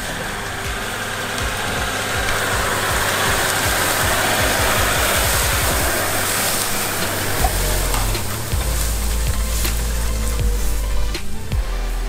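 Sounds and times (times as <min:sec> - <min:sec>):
background music: 0:00.0 - 0:12.0
grass brushing along vehicle: 0:00.0 - 0:12.0
vehicle engine running: 0:00.0 - 0:12.0.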